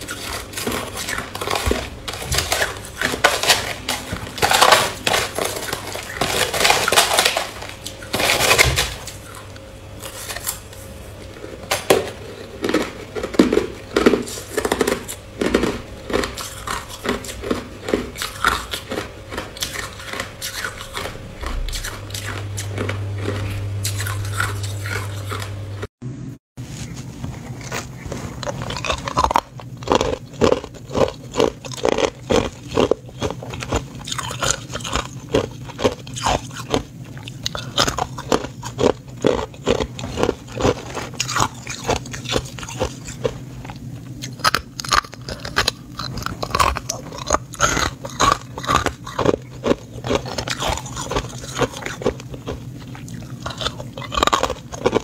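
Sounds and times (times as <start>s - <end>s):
ice crunching between teeth: 0.0s - 10.7s, 11.3s - 25.6s, 27.3s - 55.0s.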